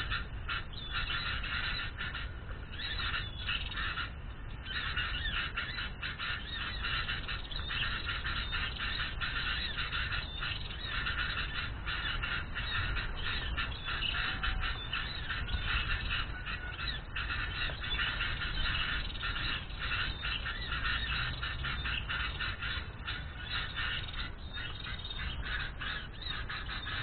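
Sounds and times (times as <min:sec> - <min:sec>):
small birds chattering: 0:00.0 - 0:27.0.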